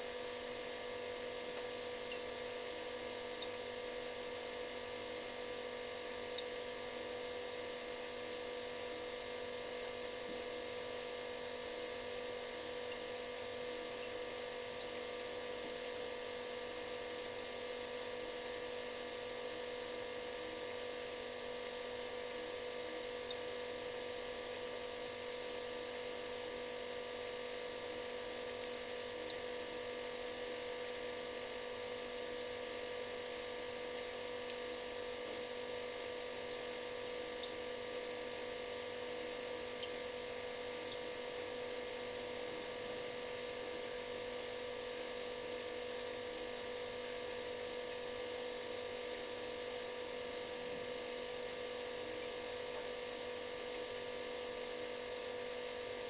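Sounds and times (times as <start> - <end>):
refrigerator humming: 0.0 - 56.0.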